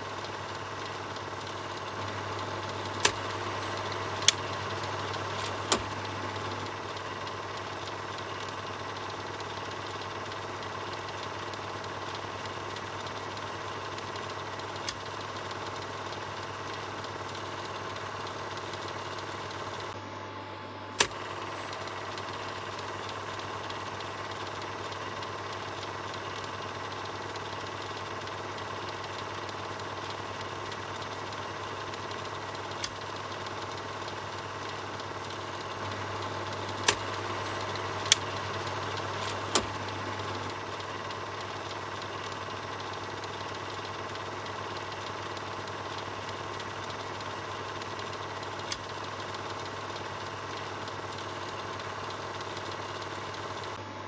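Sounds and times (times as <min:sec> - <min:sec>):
sharp clicks: 0:00.0 - 0:20.0, 0:21.0 - 0:53.8
film projector running: 0:00.0 - 0:54.0.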